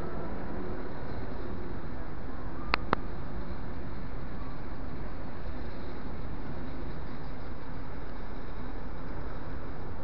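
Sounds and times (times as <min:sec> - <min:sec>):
low rumble of city traffic: 0:00.0 - 0:10.0.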